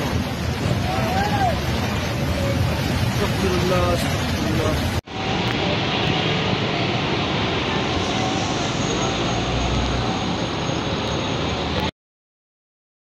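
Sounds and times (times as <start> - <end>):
heavy rain: 0.0 - 11.9
traffic on a wet road: 0.0 - 11.9.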